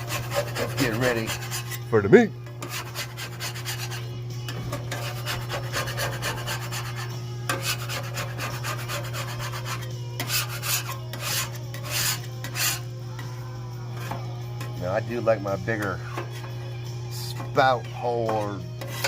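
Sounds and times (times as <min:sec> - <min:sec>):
metal scraper rasping on griddle: 0:00.0 - 0:01.9, 0:02.5 - 0:12.9, 0:13.9 - 0:14.8, 0:15.7 - 0:19.0
steady low hum: 0:00.0 - 0:19.0.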